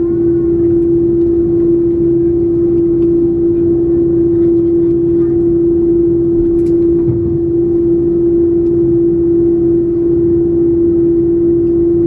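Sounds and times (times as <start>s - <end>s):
aircraft engines droning hum: 0.0s - 12.0s
low rumble: 0.0s - 12.0s.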